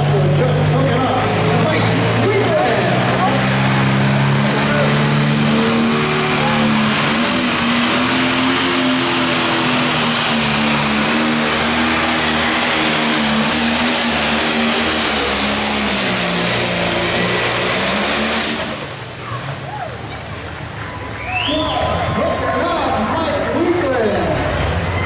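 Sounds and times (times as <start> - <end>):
tractor diesel engine at high revs: 0.0 - 19.7, 22.5 - 25.0.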